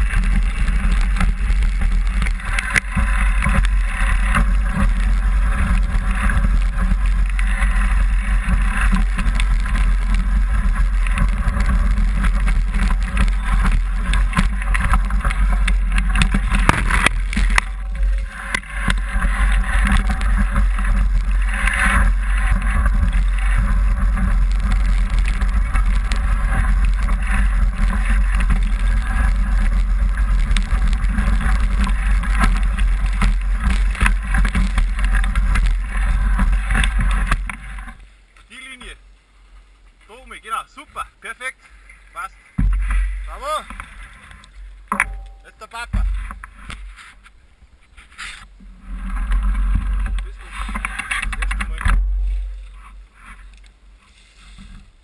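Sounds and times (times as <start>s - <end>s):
bike rattling and knocking: 0.0s - 38.0s, 42.6s - 46.8s, 49.0s - 52.9s
wind rumble on microphone: 0.0s - 38.1s, 42.5s - 55.0s.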